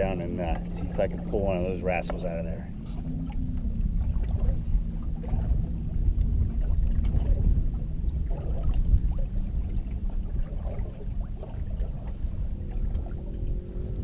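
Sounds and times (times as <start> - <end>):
low steady hum: 0.0 - 14.0
water splashes: 0.0 - 14.0
wind rumbling on microphone: 0.0 - 14.0.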